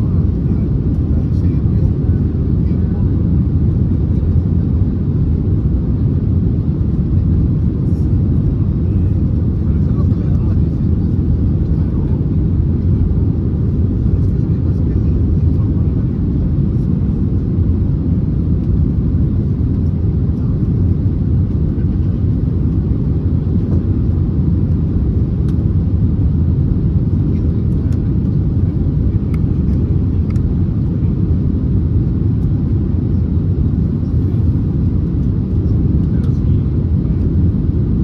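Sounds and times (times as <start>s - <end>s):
airliner cabin rumble: 0.0s - 38.0s.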